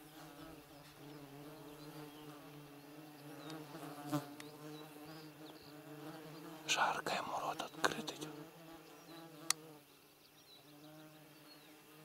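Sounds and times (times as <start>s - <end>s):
insect buzzing: 0.0s - 12.0s.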